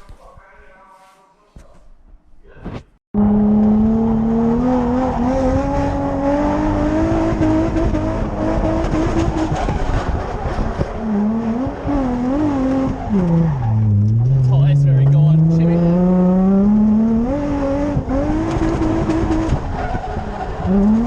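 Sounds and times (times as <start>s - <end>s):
car engine at high revs: 3.2s - 21.0s.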